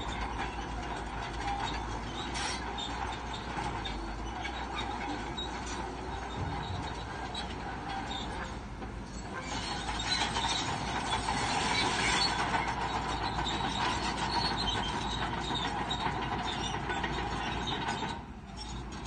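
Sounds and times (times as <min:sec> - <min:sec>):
bulldozer engine running: 0:00.0 - 0:19.0
bulldozer tracks squealing and clanking: 0:00.0 - 0:19.0.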